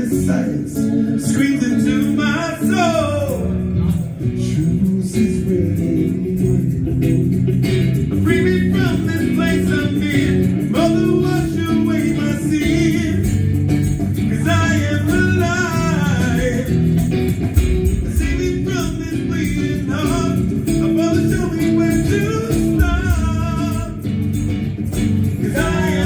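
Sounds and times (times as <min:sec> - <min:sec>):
man singing: 0:00.0 - 0:17.0, 0:17.9 - 0:24.3, 0:25.2 - 0:26.0
rock song on electric guitar: 0:00.0 - 0:26.0.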